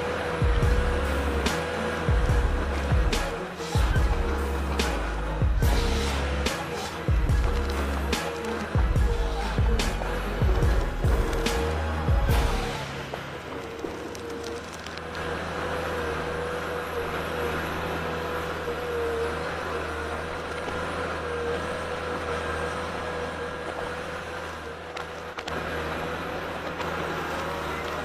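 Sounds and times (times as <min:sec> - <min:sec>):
machine engine running with whine: 0:00.0 - 0:28.0.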